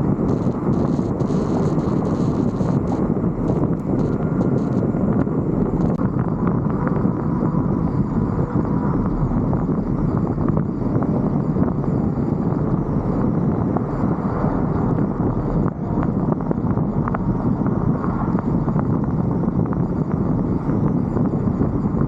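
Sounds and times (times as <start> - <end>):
road noise: 0.0 - 22.0
wind buffeting camera: 0.0 - 22.0.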